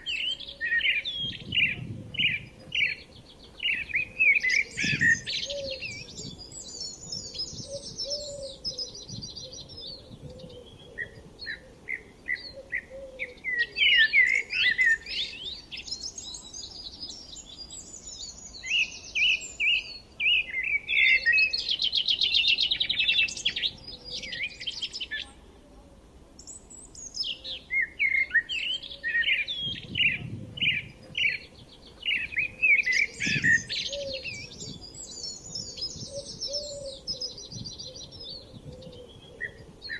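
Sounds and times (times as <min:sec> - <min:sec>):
songbirds chirping and singing: 0:00.0 - 0:25.5, 0:26.4 - 0:39.9.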